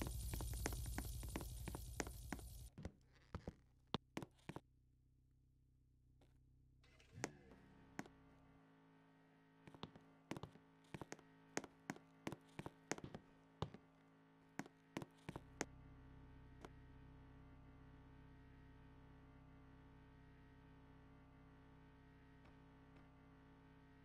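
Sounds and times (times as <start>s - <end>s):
faint steady hum: 0.0s - 2.8s, 6.6s - 24.0s.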